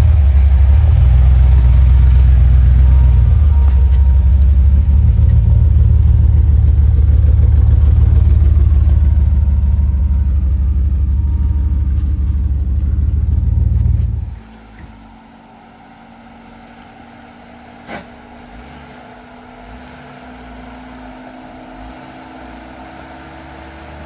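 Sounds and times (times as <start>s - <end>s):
pickup engine low rumble: 0.0s - 24.0s.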